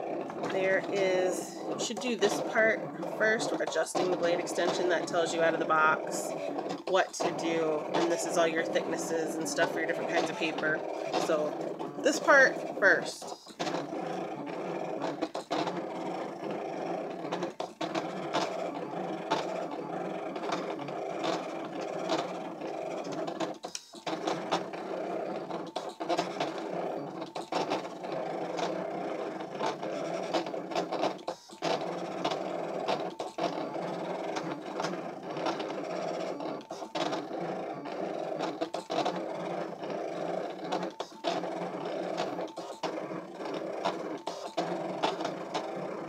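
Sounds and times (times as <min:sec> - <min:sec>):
cutting machine whirring and ticking: 0:00.0 - 0:46.0.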